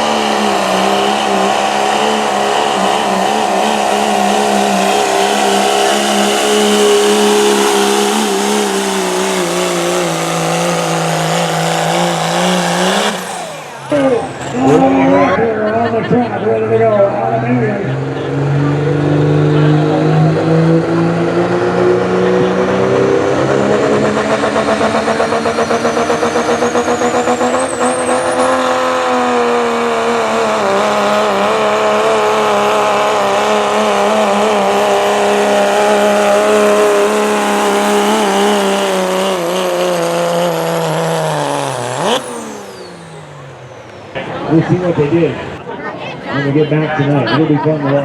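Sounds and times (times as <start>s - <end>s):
diesel truck engine at full throttle: 0.0s - 48.0s.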